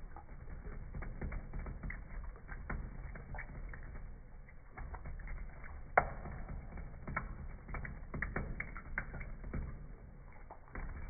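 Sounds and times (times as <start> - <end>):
cat lapping water: 0.0 - 11.0.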